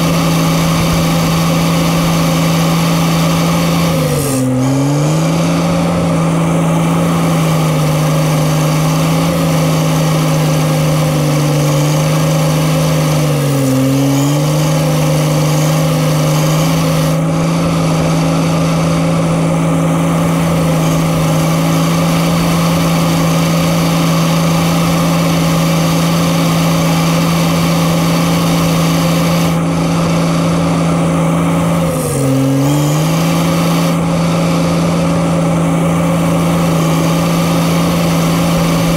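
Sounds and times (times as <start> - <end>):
diesel engine running at high speed: 0.0 - 38.9.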